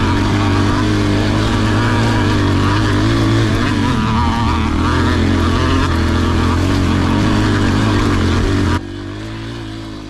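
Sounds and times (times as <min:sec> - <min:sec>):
dirt bike engine running hard: 0:00.0 - 0:10.0.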